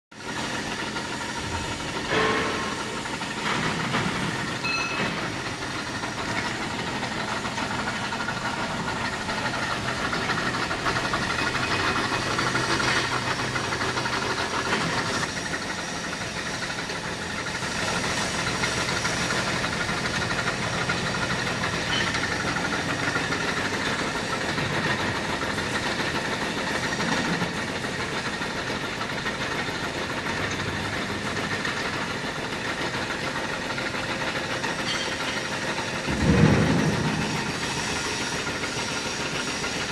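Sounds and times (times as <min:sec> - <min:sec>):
factory machinery hum: 0:00.2 - 0:39.9.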